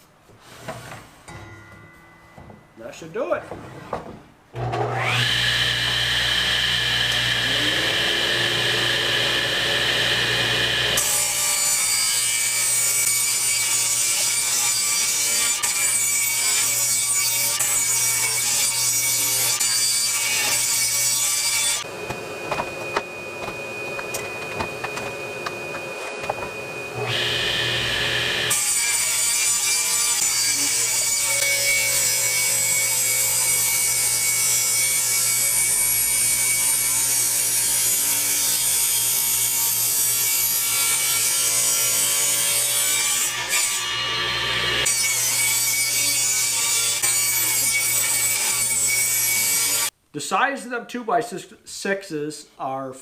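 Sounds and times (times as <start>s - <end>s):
power tool cutting wood: 4.6s - 49.9s.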